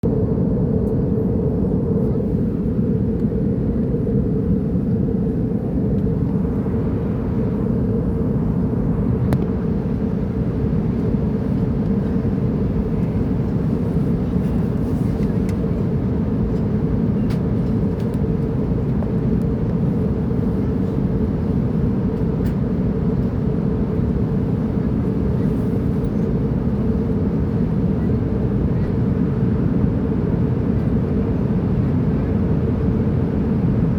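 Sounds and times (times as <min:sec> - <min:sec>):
airplane rumble: 0:00.0 - 0:33.9.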